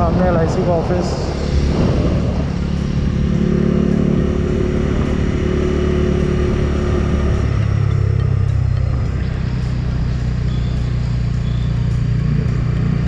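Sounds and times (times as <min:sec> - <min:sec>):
rushing air: 0:00.0 - 0:11.3
motorcycle engine running: 0:00.0 - 0:13.0.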